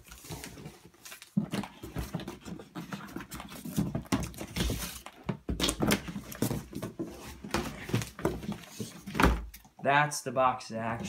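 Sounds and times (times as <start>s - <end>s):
cardboard rustling and scraping: 0.0s - 9.5s.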